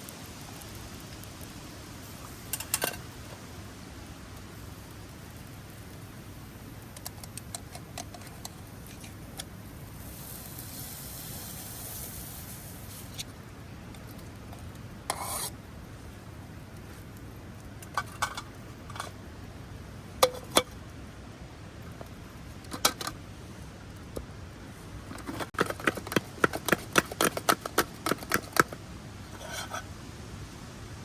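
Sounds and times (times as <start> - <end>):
steady low hiss: 0.0 - 31.0.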